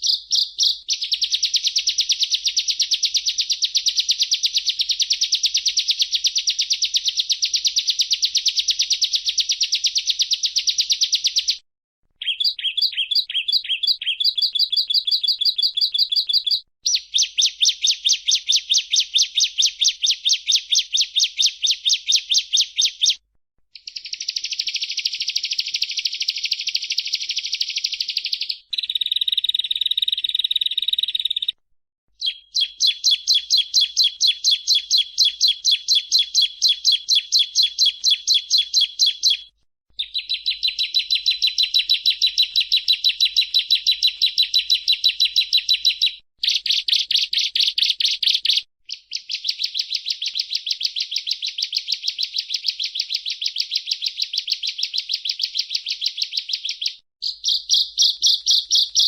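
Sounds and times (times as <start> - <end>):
bird singing high chirps: 0.0 - 11.6, 12.2 - 23.2, 23.8 - 31.6, 32.2 - 59.0.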